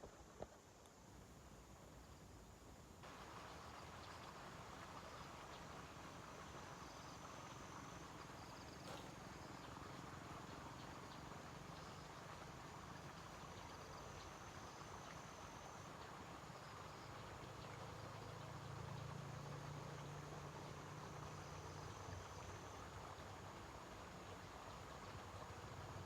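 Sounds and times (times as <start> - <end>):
insects trilling: 1.4 - 26.0.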